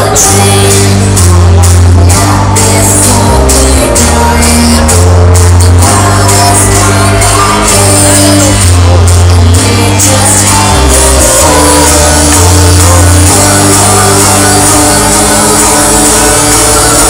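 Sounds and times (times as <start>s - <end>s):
electronic dance music: 0.0s - 17.0s.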